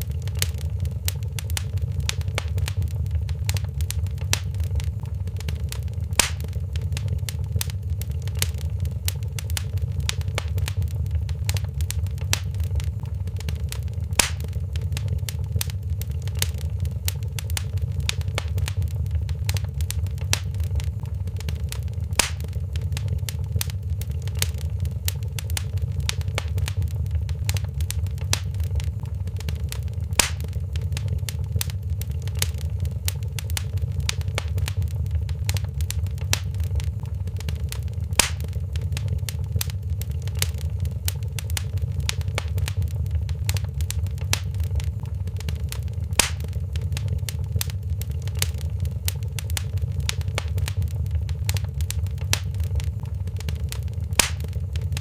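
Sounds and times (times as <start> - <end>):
sharp fire pops: 0.0 - 55.0
wood fire crackling: 0.0 - 55.0.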